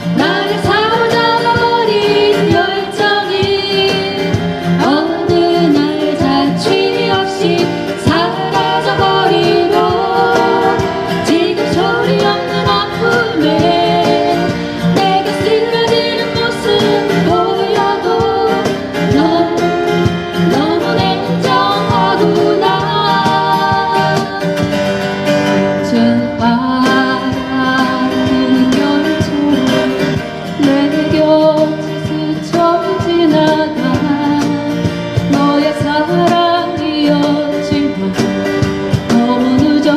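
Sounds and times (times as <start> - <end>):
woman singing a ballad: 0.0 - 24.7, 25.7 - 39.9
strummed acoustic guitar: 0.0 - 39.9.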